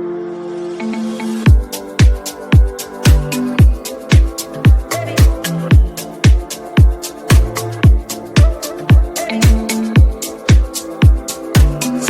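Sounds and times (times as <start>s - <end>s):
electronic dance music: 0.4s - 12.0s.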